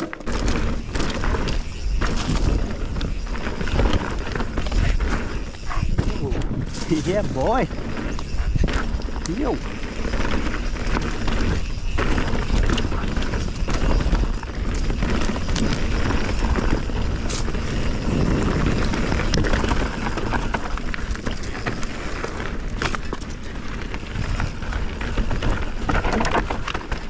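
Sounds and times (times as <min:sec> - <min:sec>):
bike tyre roar: 0:00.0 - 0:27.0
wheels knocking on roots: 0:00.0 - 0:27.0
wind buffeting microphone: 0:00.4 - 0:27.0.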